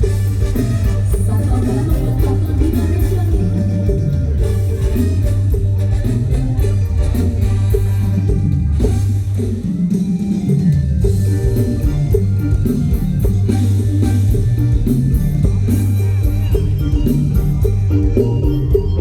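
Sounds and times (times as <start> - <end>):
drum kit beating: 0.0 - 19.0
electric guitar: 0.0 - 19.0
heavy bass line: 0.0 - 19.0.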